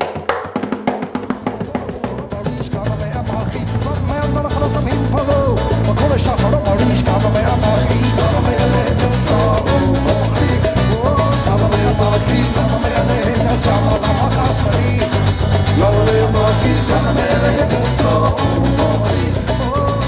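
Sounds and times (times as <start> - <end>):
folk band playing live: 1.5 - 20.0.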